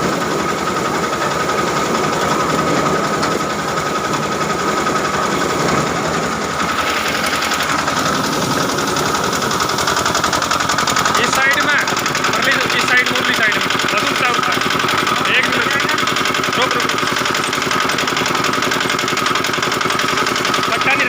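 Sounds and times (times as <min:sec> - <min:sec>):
constant high whine: 0:00.0 - 0:21.0
washing machine mechanical rattle: 0:00.0 - 0:21.0.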